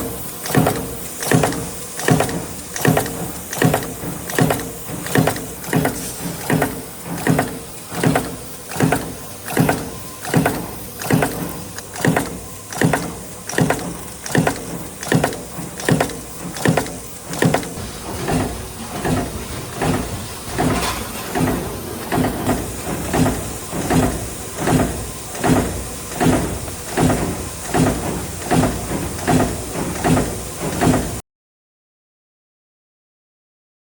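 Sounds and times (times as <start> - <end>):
machine hum: 0.0 - 31.2
punching press strokes: 0.0 - 31.2.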